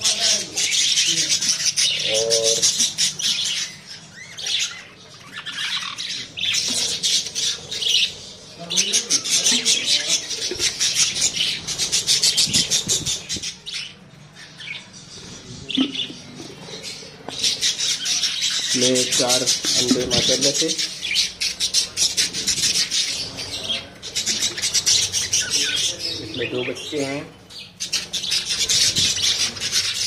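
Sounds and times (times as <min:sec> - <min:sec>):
budgerigars chattering and squawking: 0:00.0 - 0:30.0.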